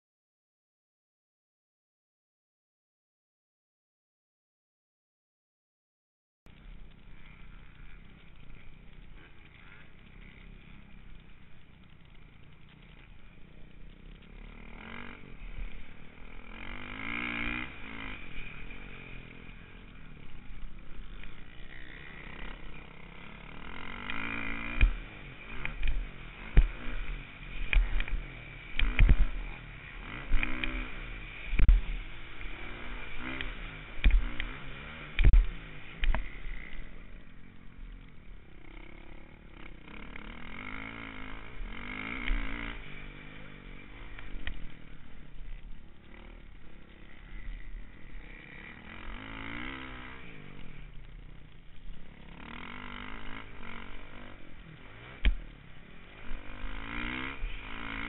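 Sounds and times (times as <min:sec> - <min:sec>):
motorcycle engine revving: 0:06.5 - 0:58.0.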